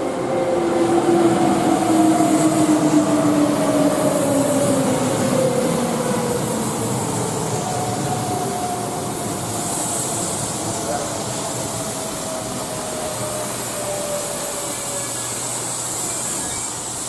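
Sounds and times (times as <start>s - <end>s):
electric train motor whine: 0.0s - 17.0s
train wheels rumbling: 0.0s - 17.0s.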